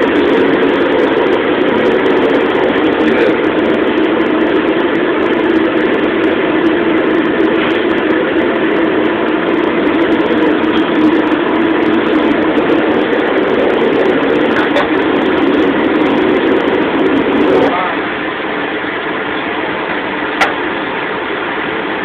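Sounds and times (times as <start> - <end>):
gas burner rushing: 0.0 - 22.0.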